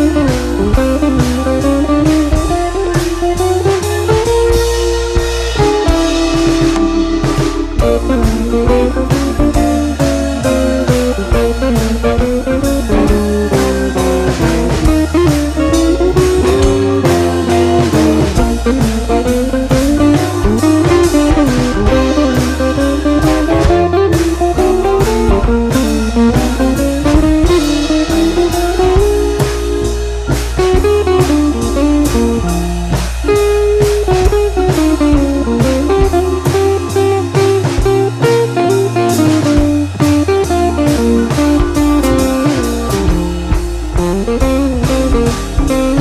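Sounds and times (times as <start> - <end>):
blues guitar tune: 0.0 - 46.0
steady drum beat: 0.0 - 46.0.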